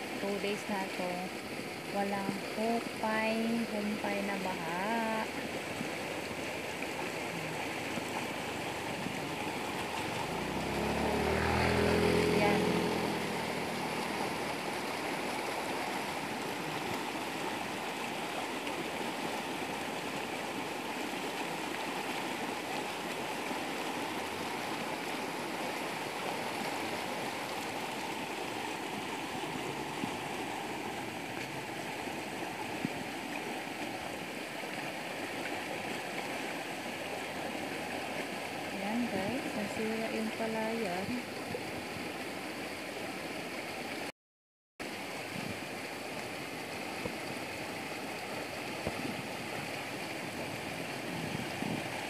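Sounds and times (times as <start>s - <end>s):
floodwater rushing: 0.0s - 44.1s, 44.8s - 52.0s.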